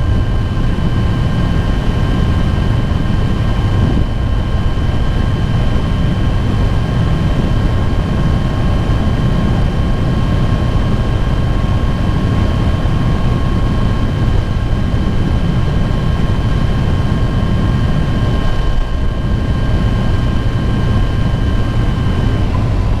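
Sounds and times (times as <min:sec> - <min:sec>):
thin steady whine: 0:00.0 - 0:23.0.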